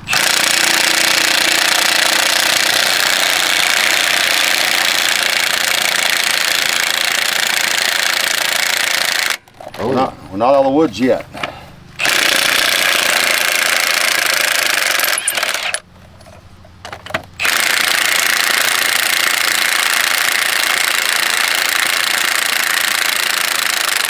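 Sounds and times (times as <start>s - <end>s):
power tool hammering rapidly: 0.1s - 9.4s, 12.0s - 15.8s, 17.4s - 24.0s.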